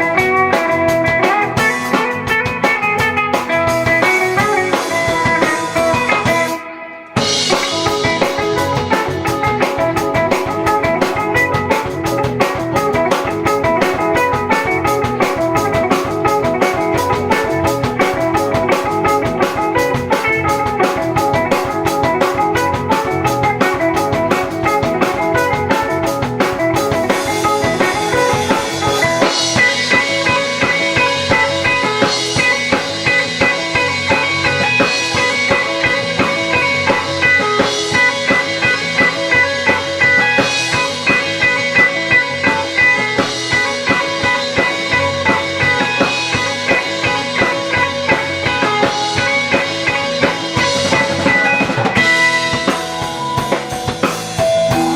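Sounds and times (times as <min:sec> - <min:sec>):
drum kit: 0:00.0 - 0:54.9
electric guitar: 0:00.0 - 0:54.9
rock band playing live: 0:00.0 - 0:54.9.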